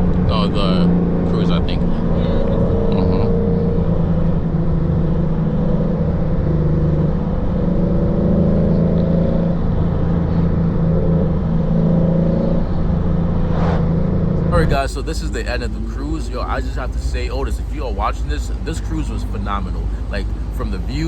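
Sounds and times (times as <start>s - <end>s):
car engine droning while cruising: 0.0s - 21.0s.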